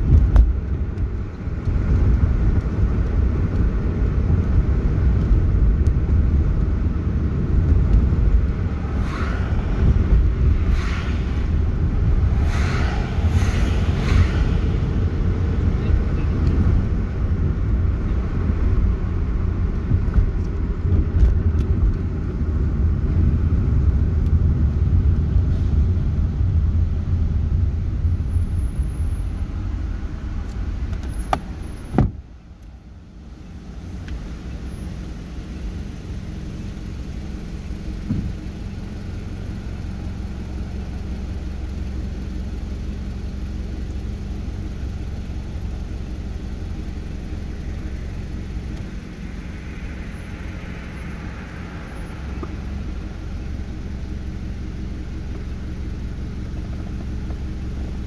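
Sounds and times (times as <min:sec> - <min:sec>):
car engine and road noise: 0:00.0 - 0:58.0
car idling hum: 0:00.0 - 0:58.0.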